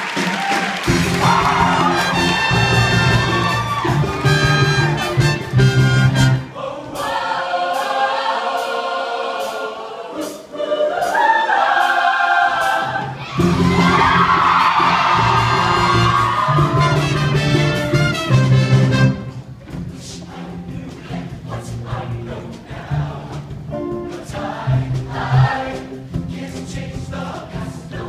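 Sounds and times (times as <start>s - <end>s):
live band with horns: 0.0s - 7.2s, 10.1s - 28.0s
choir singing: 1.0s - 17.4s, 20.0s - 28.0s.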